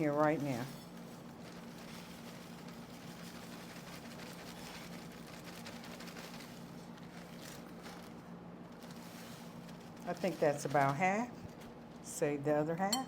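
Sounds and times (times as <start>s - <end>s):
crumbs rustling into bowl: 0.0s - 12.1s.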